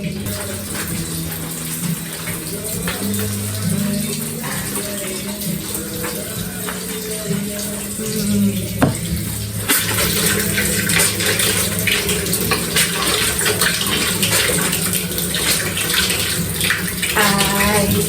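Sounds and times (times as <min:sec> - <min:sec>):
water running splashily: 0:00.0 - 0:18.0.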